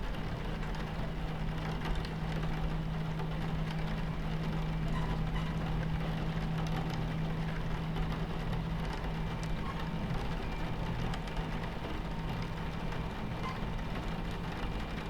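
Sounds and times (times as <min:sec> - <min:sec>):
rain pattering on window: 0:00.0 - 0:15.0
train rumbling: 0:00.0 - 0:15.0.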